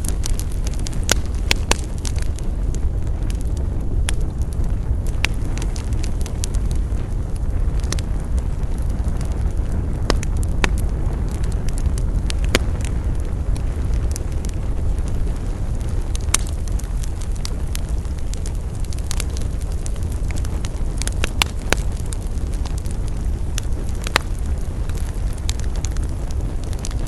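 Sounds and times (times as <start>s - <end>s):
burning wood crackling and popping: 0.0s - 27.0s
campfire burning: 0.0s - 27.0s.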